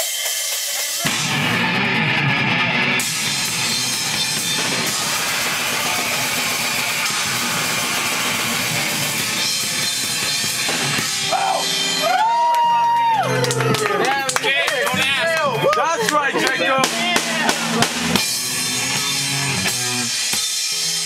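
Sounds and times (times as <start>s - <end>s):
drum kit: 0.0s - 21.0s
live rock band playing: 0.2s - 21.0s
electric guitar: 1.0s - 21.0s.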